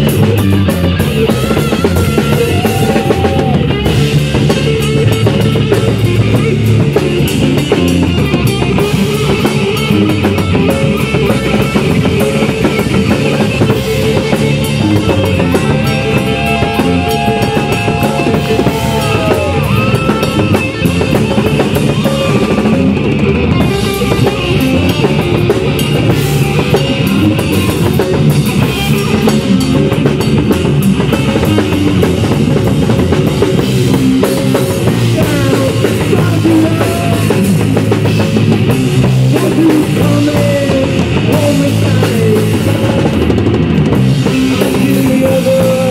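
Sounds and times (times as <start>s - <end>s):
bass guitar: 0.0s - 45.9s
distorted electric guitar: 0.0s - 45.9s
pounding drum kit: 0.0s - 45.9s.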